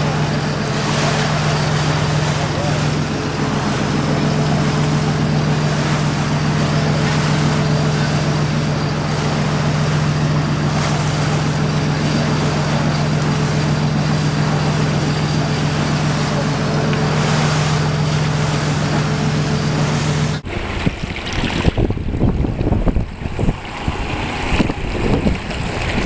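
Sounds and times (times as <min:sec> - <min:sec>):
boat engine humming: 0:00.0 - 0:26.0
wind and water hiss: 0:00.0 - 0:26.0.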